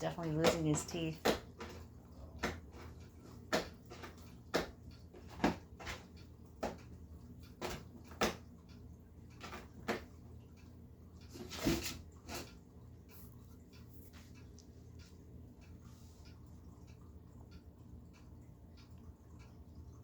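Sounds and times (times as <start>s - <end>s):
cat chewing with crunching clicks: 0.1s - 20.0s.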